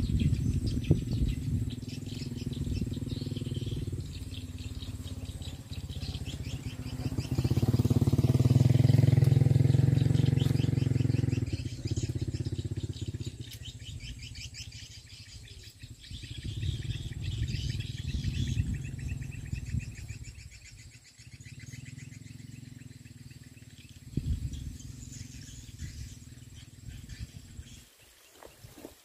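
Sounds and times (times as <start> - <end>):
birds chirping trills: 0.0 - 29.0.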